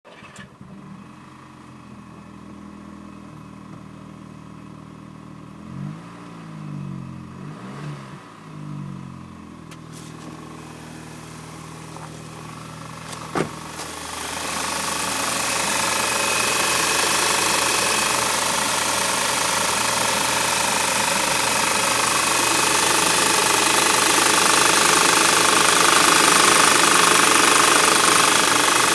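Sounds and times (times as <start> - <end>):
car engine idling and revving: 0.1 - 28.9.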